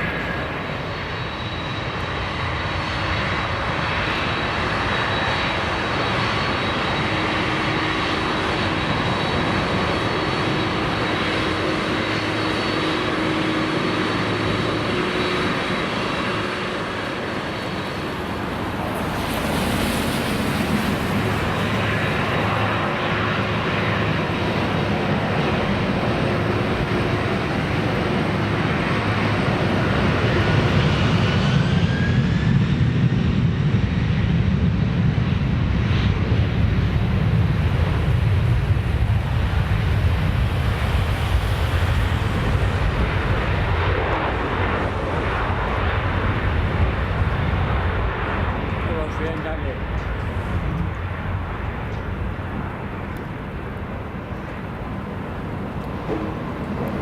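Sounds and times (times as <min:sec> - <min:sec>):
high engine whine: 0:00.0 - 0:57.0
jet engines running: 0:00.0 - 0:57.0.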